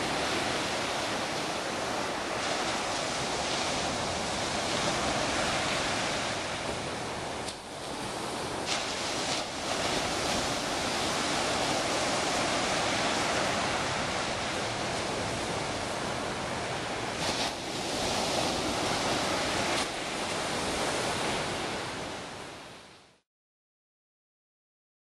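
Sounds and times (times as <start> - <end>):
small waves washing up a beach: 0.0 - 23.2.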